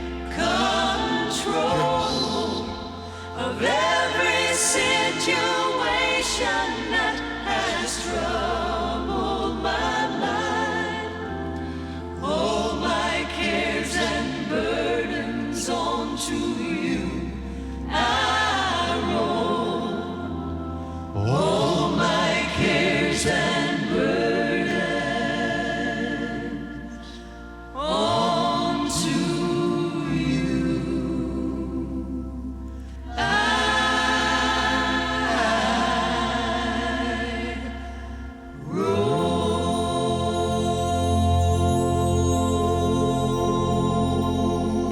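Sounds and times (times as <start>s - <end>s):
bass: 0.0s - 44.9s
choir singing wordlessly: 0.0s - 44.9s
piano: 0.0s - 44.9s.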